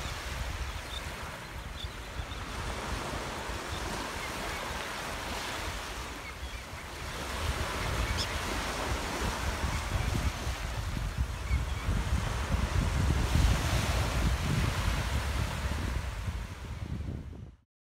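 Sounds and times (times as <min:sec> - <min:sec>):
small waves washing on sand: 0:00.0 - 0:16.7
wind rumbling on microphone: 0:00.0 - 0:17.6.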